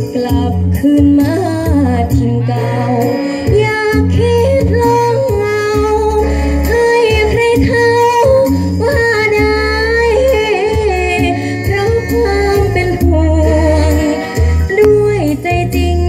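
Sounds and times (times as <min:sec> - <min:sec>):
backing music with steady bass: 0:00.0 - 0:16.0
woman singing into microphone: 0:00.0 - 0:16.0.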